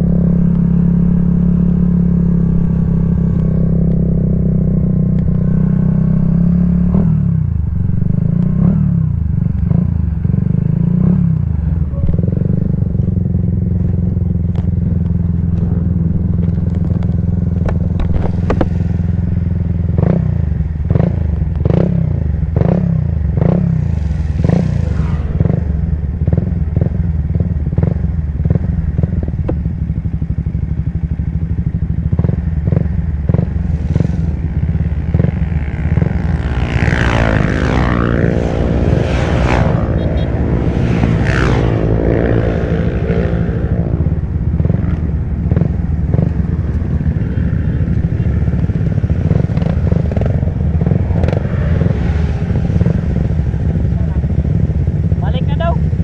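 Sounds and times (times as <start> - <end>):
motorcycle engine running: 0.0 - 56.0
motorcycles riding past: 0.0 - 56.0.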